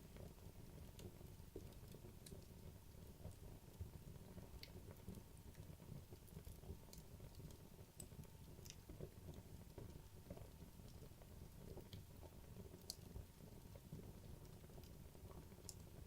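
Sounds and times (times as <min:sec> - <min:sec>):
wood crackles and pops: 0:00.0 - 0:16.0.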